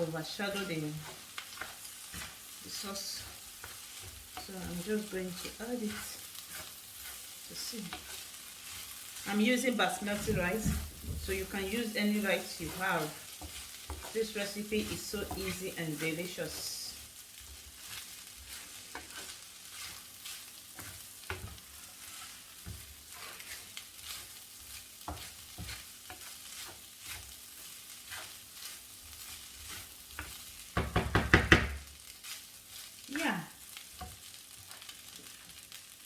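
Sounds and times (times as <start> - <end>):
rice sizzling in a pan: 0.0 - 36.0
scraping strokes in a pan: 0.0 - 36.0.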